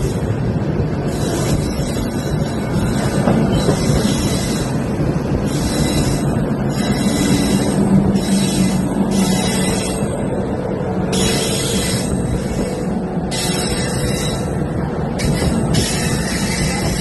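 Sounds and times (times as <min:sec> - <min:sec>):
train rumbling clatter: 0:00.0 - 0:17.0.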